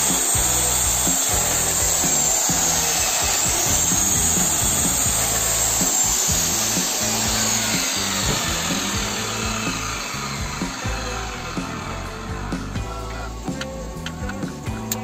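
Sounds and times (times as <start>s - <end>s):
background music: 0.0s - 15.0s
circular saw cutting wood: 0.0s - 15.0s.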